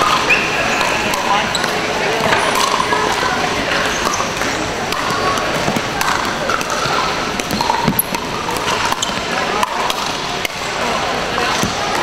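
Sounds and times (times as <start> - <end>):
paddles striking balls: 0.0 - 10.7, 11.4 - 12.0
hum of voices: 0.0 - 12.0.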